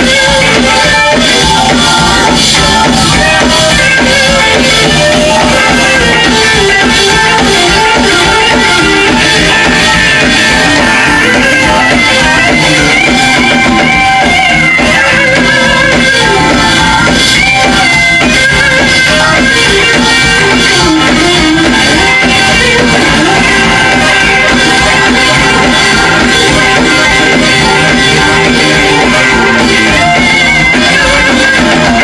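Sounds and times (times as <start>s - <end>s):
electric blues band playing: 0.0s - 32.0s
lead electric guitar: 0.0s - 32.0s.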